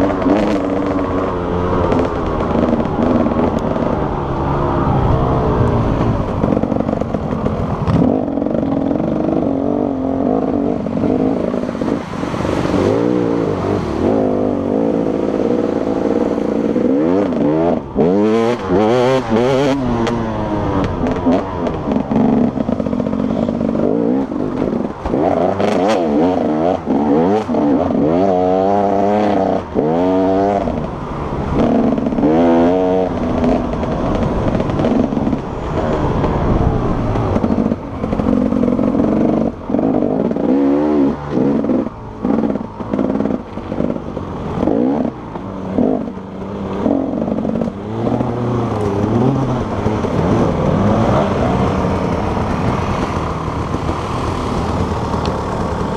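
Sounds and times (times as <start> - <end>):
motorcycle engine revving: 0.0 - 55.9
motorcycle rattling and knocking: 0.0 - 55.9.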